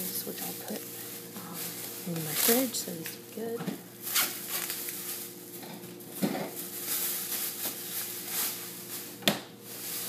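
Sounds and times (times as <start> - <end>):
bags and packaging rustling: 0.1 - 10.0.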